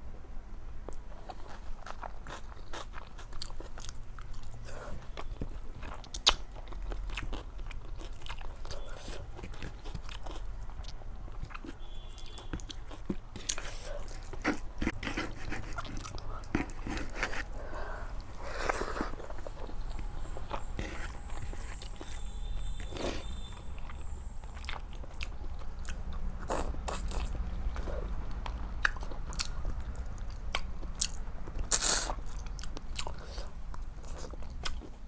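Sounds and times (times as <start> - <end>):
chewing and biting: 0.9 - 22.2, 22.8 - 35.0
food crunching: 0.9 - 35.0.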